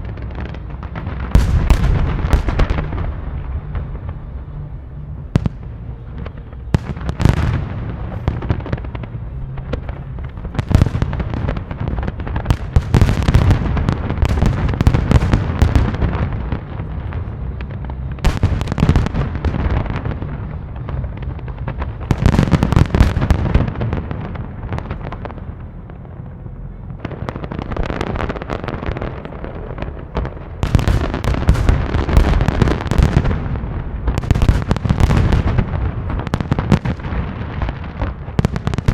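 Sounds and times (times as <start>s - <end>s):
fireworks crackling: 0.0s - 38.9s
low rumble: 0.0s - 38.9s.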